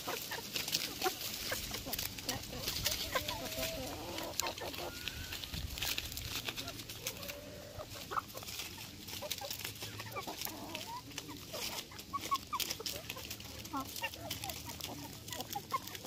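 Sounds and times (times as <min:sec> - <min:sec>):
beaks tearing leaves: 0:00.0 - 0:16.0
chickens clucking: 0:00.0 - 0:16.0.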